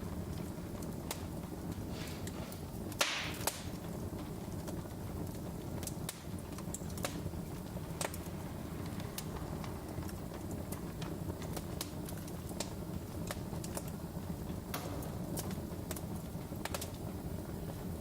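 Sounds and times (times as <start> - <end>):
low rumble of burning logs: 0.0 - 18.0
wood fire crackling: 0.0 - 18.0.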